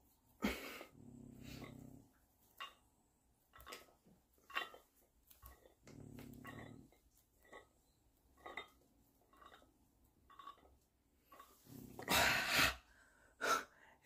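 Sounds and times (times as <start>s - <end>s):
faint dumbbell lifting sounds: 0.0s - 14.0s.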